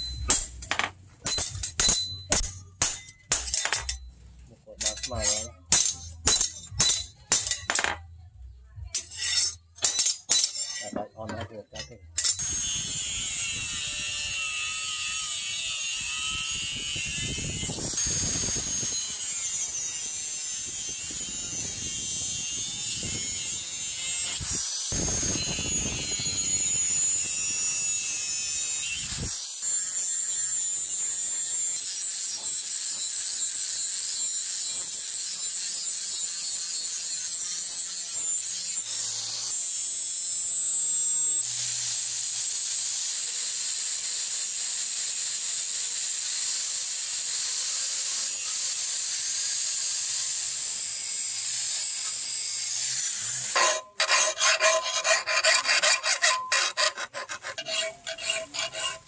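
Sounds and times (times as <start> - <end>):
angle grinder cutting steel: 0.0 - 8.0, 8.8 - 59.0.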